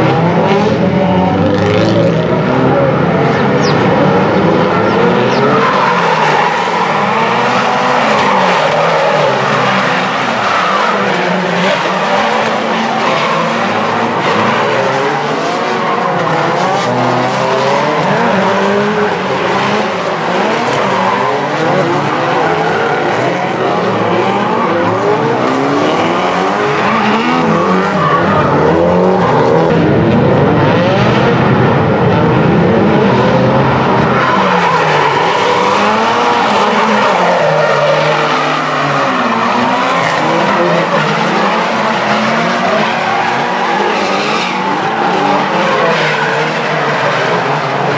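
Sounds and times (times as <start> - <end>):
car engines revving: 0.0 - 47.9
tyres skidding and squealing: 0.0 - 47.9.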